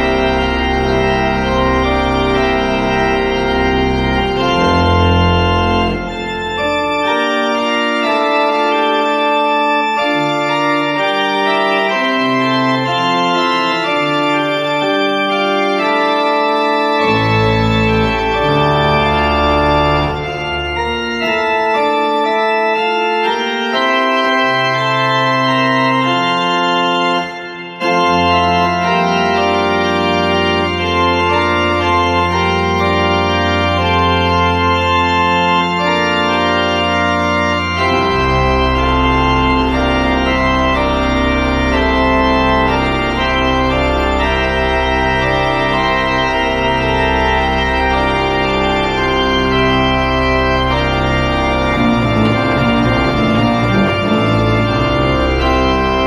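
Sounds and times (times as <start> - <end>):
organ playing festive chords: 0.0 - 56.0.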